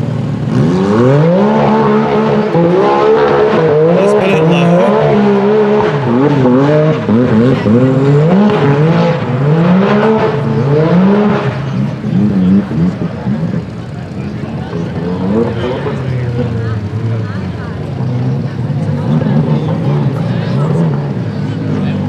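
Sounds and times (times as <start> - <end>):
buggy engine revving: 0.0 - 22.0.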